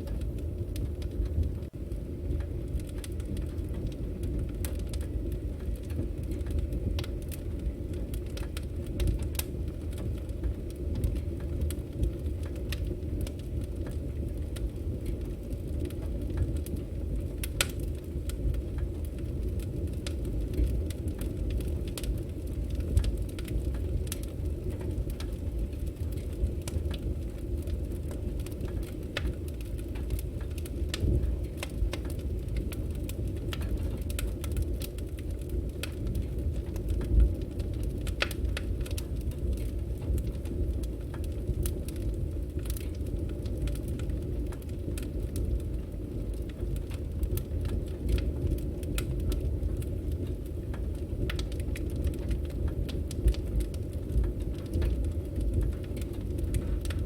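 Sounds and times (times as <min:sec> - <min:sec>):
firewood burning: 0:00.0 - 0:57.0.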